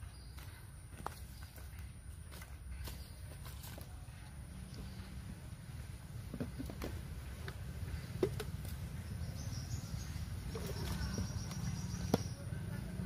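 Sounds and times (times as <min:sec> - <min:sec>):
low steady rumble: 0:01.9 - 0:13.0.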